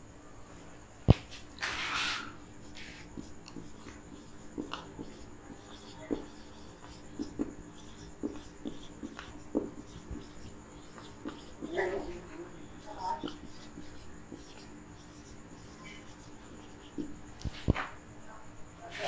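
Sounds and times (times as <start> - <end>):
marker squeaking on whiteboard: 1.6 - 18.0.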